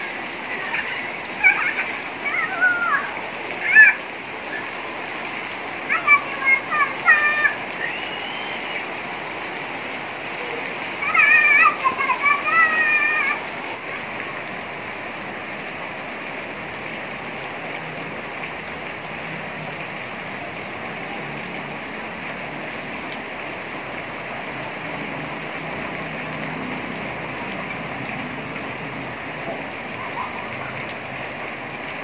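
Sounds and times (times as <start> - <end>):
heavy rain on tile roofs: 0.0 - 32.0.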